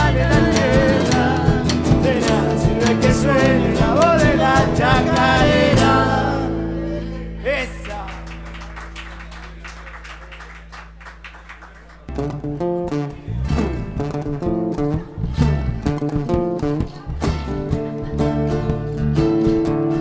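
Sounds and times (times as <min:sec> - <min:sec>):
light guitar notes: 0:00.0 - 0:08.5, 0:12.1 - 0:20.0
acoustic guitars strumming: 0:00.0 - 0:09.3, 0:12.1 - 0:20.0.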